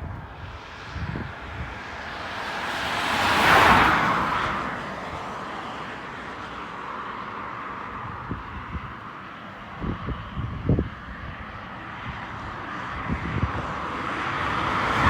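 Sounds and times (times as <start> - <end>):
wind buffeting microphone: 0.0 - 5.5, 7.9 - 15.0
jet airliner passing: 0.0 - 15.0.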